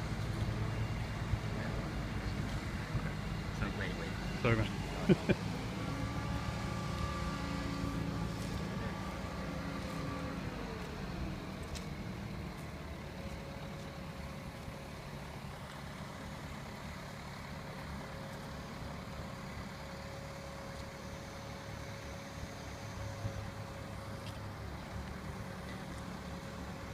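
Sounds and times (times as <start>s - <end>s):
heavy engine running: 0.0s - 26.9s.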